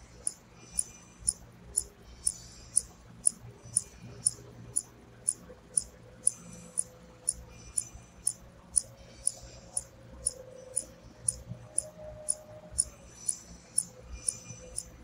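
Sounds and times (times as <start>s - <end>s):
clock-like ticking: 0.0s - 15.0s.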